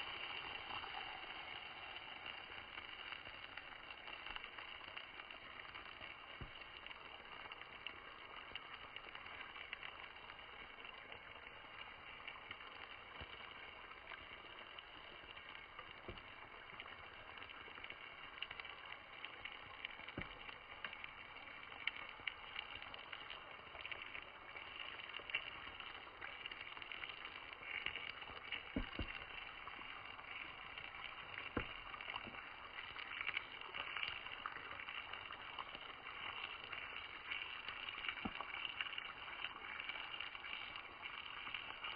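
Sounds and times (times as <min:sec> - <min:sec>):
campfire crackling and hissing: 0:00.0 - 0:41.9.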